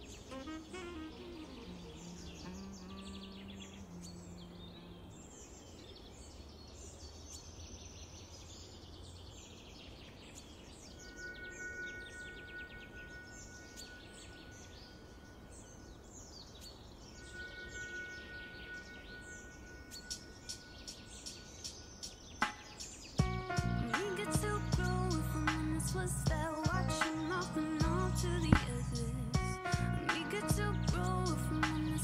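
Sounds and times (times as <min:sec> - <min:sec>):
birds chirping and singing: 0:00.0 - 0:32.0
low sustained music notes: 0:00.0 - 0:32.0
outdoor background noise: 0:00.0 - 0:32.0.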